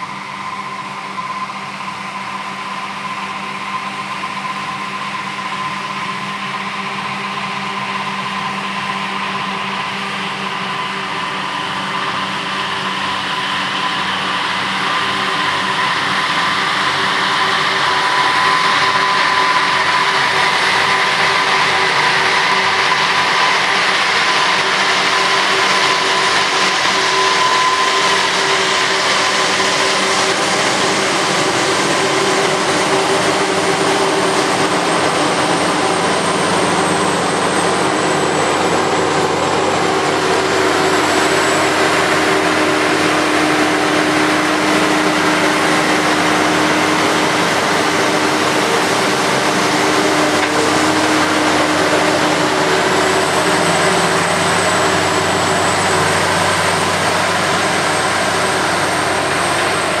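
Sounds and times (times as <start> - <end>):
heavy harvester engine drone: 0.0 - 60.0
thin high whine: 0.0 - 60.0.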